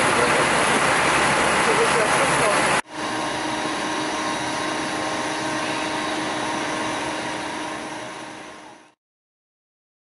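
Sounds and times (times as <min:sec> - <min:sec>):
fire engine machinery droning: 0:00.0 - 0:09.0.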